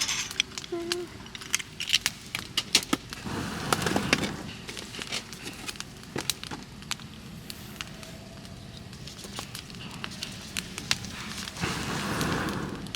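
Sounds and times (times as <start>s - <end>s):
campfire crackling and popping: 0.0s - 12.9s
rustling: 0.0s - 12.9s.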